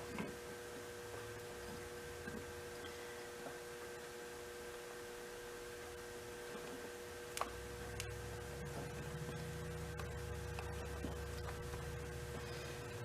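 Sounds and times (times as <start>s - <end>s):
electrical hum with whining tones: 0.0s - 13.0s.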